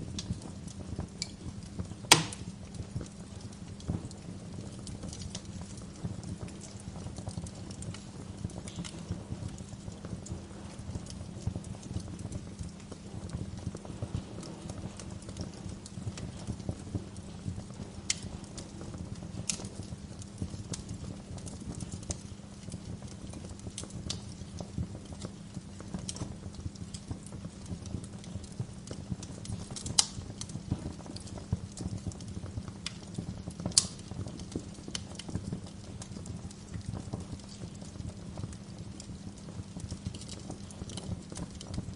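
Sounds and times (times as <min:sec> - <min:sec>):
bonfire crackling: 0:00.0 - 0:41.9.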